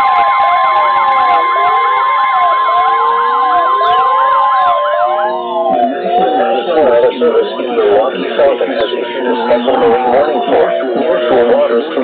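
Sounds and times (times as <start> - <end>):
steady alarm tone: 0.0 - 12.0
wailing siren-like sweeps: 0.0 - 12.0.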